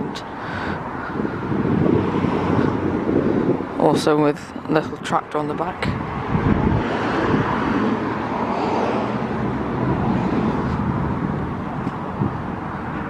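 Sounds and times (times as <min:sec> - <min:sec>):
motor vehicle noise: 0:00.0 - 0:13.0.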